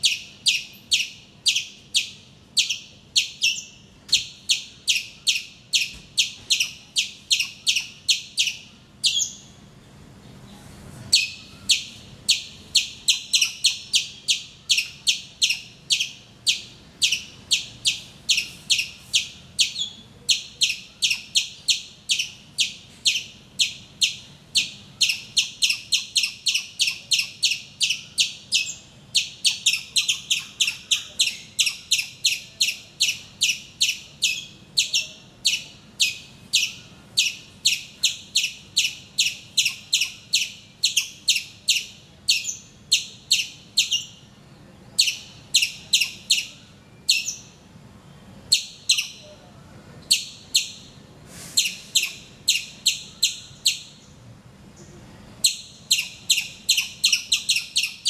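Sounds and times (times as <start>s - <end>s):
squirrel chip calls: 0.0s - 9.5s, 11.1s - 44.3s, 45.0s - 47.6s, 48.5s - 49.3s, 50.1s - 51.0s, 51.6s - 54.1s, 55.4s - 58.0s.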